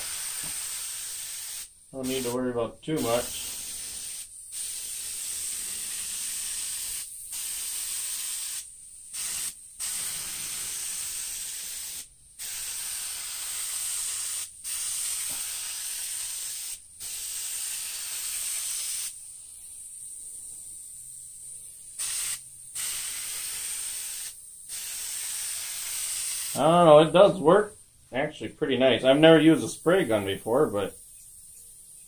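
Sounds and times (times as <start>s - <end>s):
spray gun hissing: 0.0s - 27.6s.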